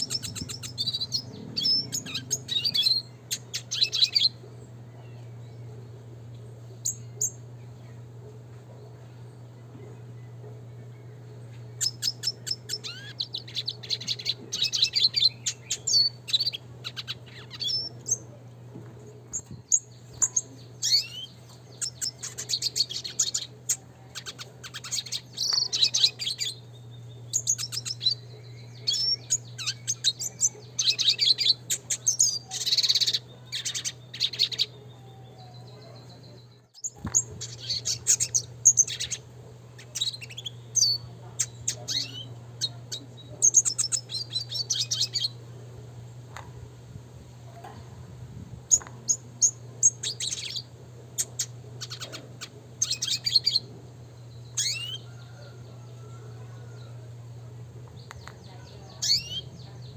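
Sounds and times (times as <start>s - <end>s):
bird twittering and trilling: 0.0s - 18.4s, 19.1s - 46.5s, 48.6s - 59.9s
steady low hum: 0.0s - 59.9s.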